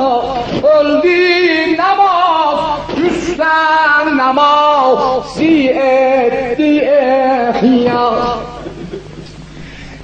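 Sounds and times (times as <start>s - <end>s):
man singing into a microphone: 0.0s - 8.7s.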